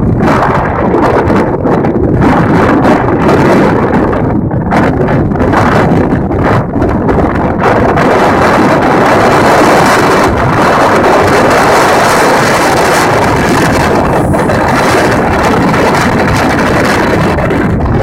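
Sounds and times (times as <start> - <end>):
storm wind on microphone: 0.0 - 18.0.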